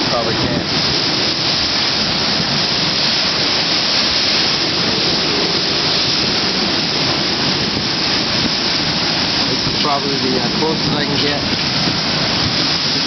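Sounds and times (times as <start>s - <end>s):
strong wind and rain rushing: 0.0s - 13.0s
wind gusts buffeting microphone: 0.0s - 13.0s.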